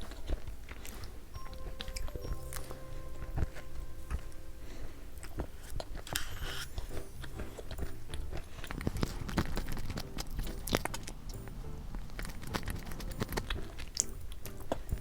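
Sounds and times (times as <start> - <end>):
chewing and crunching cookie: 0.0 - 15.0.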